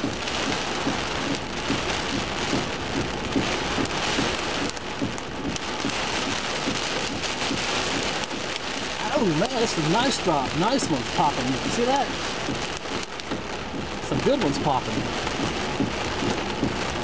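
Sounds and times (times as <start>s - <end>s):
hailstones knocking: 0.0s - 17.0s
heavy rain hissing: 0.0s - 17.0s.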